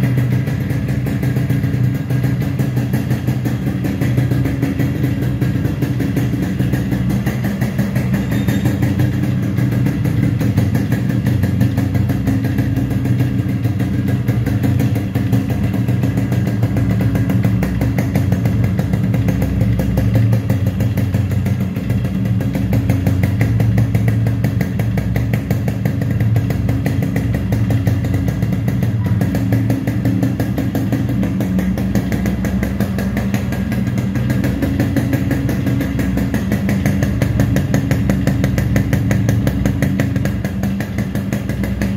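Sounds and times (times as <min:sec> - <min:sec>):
two-stroke motorcycle engine running: 0:00.0 - 0:41.9.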